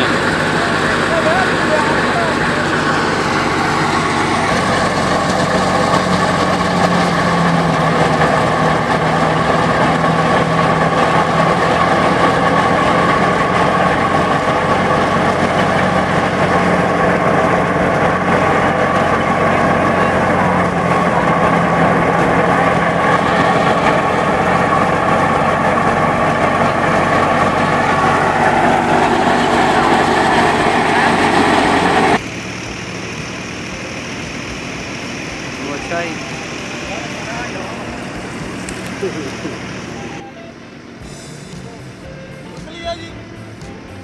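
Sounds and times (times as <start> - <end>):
thresher mechanical drone: 0.0 - 44.0.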